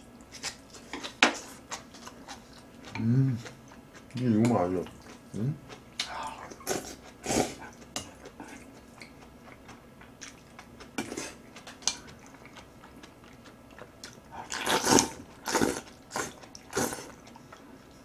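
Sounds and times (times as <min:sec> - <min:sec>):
chewing: 0:00.3 - 0:18.0.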